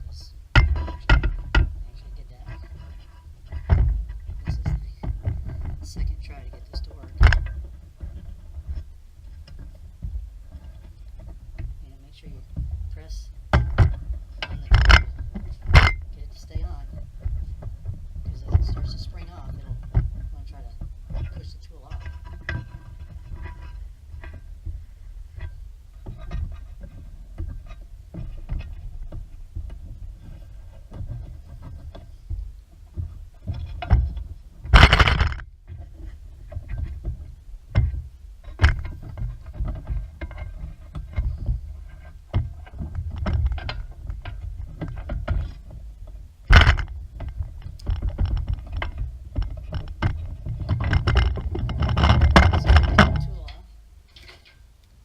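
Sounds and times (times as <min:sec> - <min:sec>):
loud thumps: 0:00.0 - 0:53.7
knocks and scrapes on wheel: 0:00.0 - 0:55.0.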